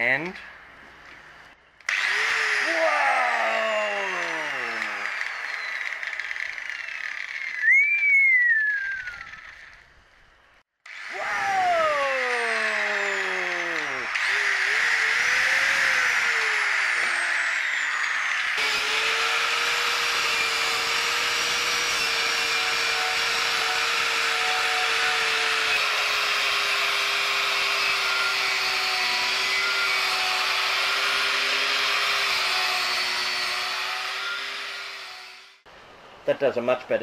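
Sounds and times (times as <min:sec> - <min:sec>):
angle grinder motor whine: 0:01.8 - 0:09.9, 0:10.9 - 0:35.7.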